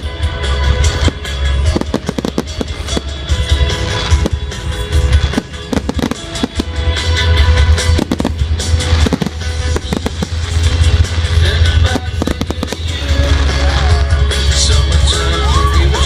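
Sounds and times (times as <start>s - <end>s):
fireworks bangs and crackles: 0.0s - 16.0s
loud bass-heavy music: 0.0s - 16.0s.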